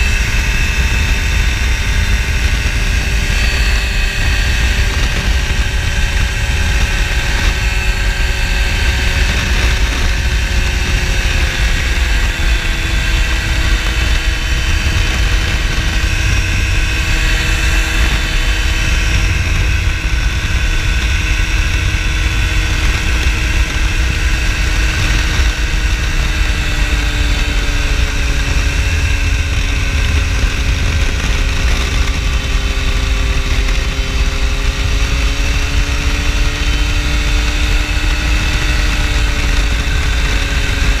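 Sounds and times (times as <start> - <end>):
ultralight aircraft engine and propeller: 0.0 - 41.0
wind rumble on microphone: 0.0 - 41.0.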